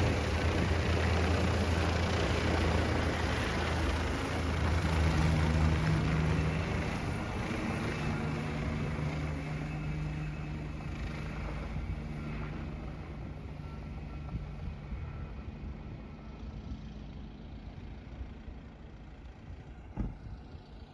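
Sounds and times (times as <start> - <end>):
helicopter drone: 0.0 - 20.9.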